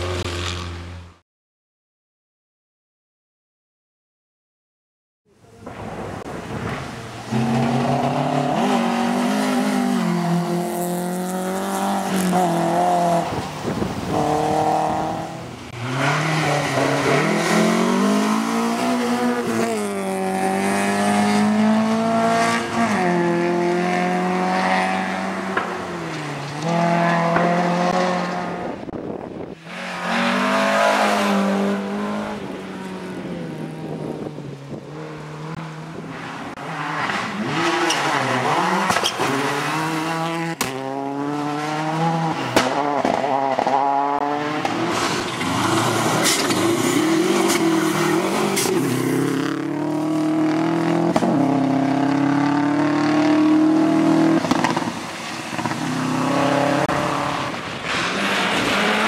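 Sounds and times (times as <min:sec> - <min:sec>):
rally car engines at full throttle: 0:05.4 - 0:59.0.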